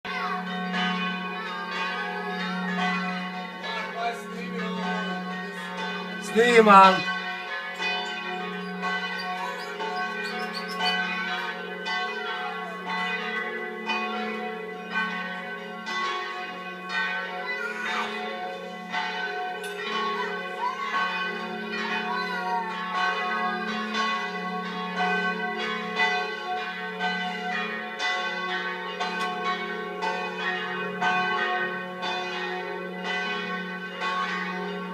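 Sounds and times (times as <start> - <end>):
church bells pealing: 0.1 - 34.9.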